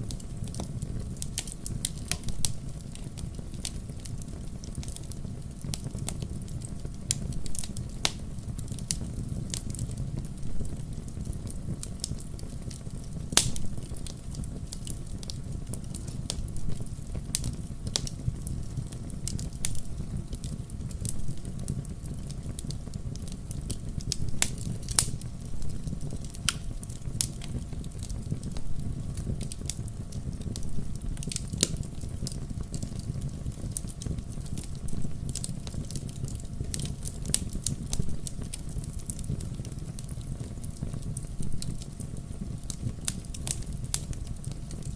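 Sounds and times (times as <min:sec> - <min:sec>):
fire low rumble: 0:00.0 - 0:44.9
wood fire crackling and popping: 0:00.0 - 0:44.9.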